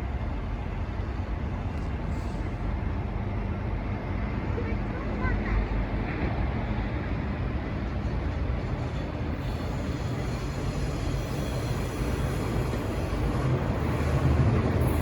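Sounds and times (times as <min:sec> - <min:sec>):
faint high whine from rails: 0:00.0 - 0:15.0
train rail rumble: 0:00.0 - 0:15.0.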